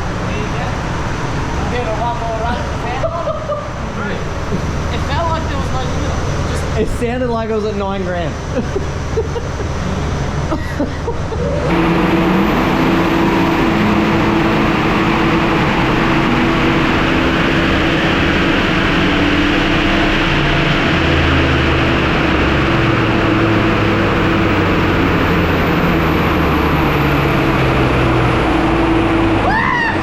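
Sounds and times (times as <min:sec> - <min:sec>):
car engine roaring under load: 0:00.0 - 0:30.0.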